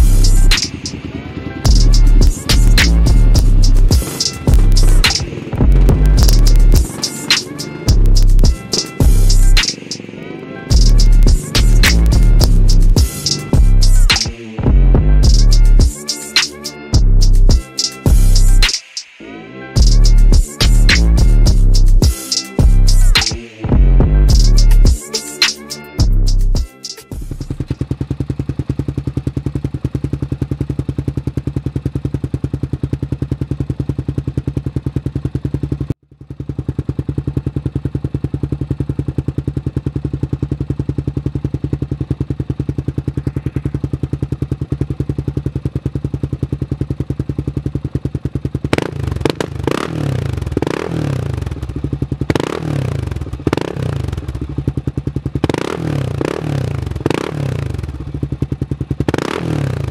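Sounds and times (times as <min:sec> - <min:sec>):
atv engine idling and revving: 0:00.0 - 0:18.7, 0:19.8 - 0:59.9.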